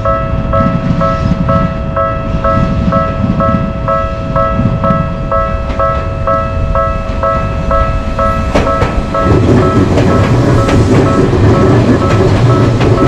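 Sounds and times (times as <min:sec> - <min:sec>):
level-crossing warning bell ringing: 0:00.0 - 0:13.0
train rumbling past: 0:00.0 - 0:13.0
wheels clacking on rails: 0:00.0 - 0:13.0.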